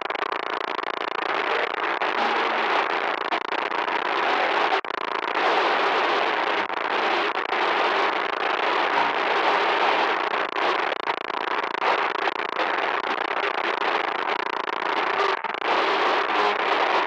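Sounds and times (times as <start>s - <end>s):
loud crackly static hiss: 0.0s - 17.0s.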